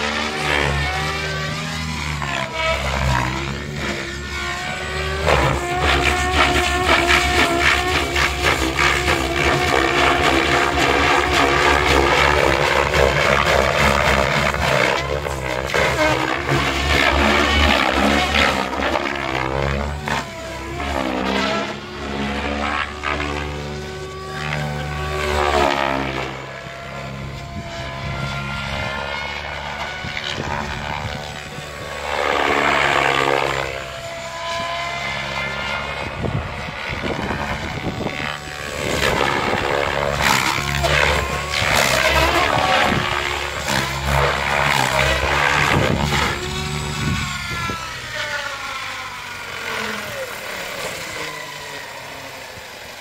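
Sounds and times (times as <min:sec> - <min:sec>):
helicopter rotor and motor hum: 0:00.0 - 0:53.0
rotor blade whoosh: 0:00.0 - 0:53.0.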